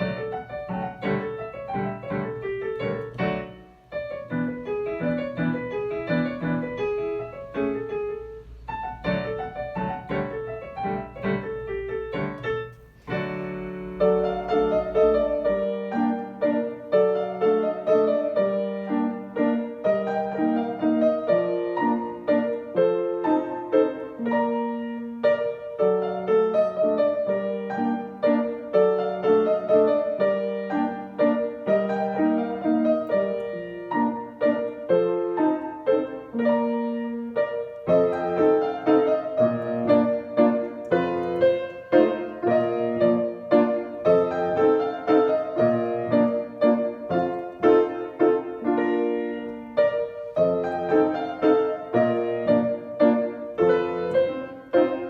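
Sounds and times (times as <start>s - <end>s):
solo piano playing dance pieces: 0.0s - 55.0s.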